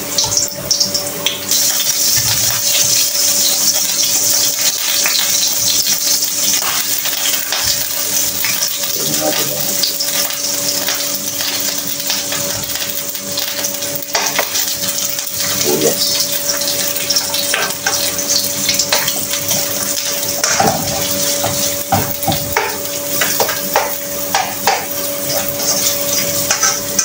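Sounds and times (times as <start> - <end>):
food sizzling in a wok: 0.0 - 27.0
utensils and dishes clinking: 0.0 - 27.0.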